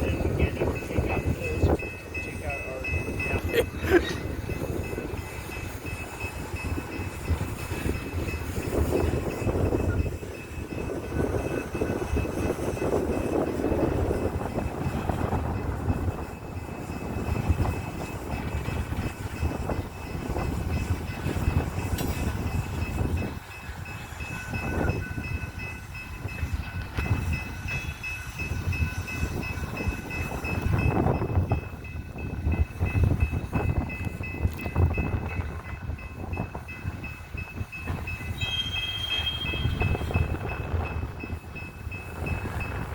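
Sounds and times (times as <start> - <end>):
train cars clanking: 0.0 - 42.9
train cars rumbling on rails: 0.0 - 42.9.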